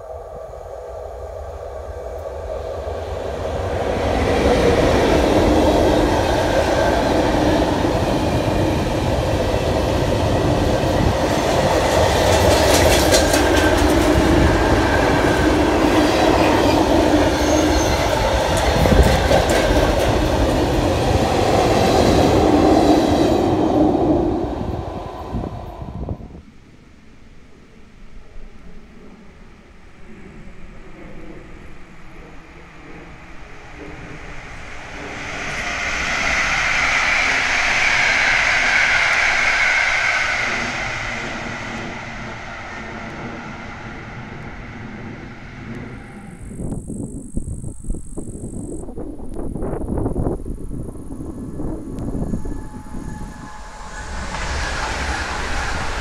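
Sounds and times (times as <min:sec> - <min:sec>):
freight train rumbling past: 0:00.0 - 0:26.5, 0:29.0 - 0:56.0.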